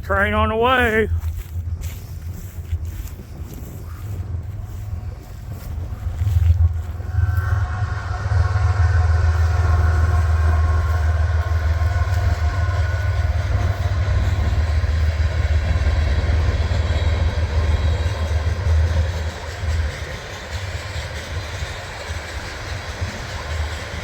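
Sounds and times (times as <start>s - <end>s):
diesel locomotive rumble: 0.0s - 24.0s
faint steady tones: 0.0s - 24.0s
rail and wheel noise: 0.0s - 24.0s.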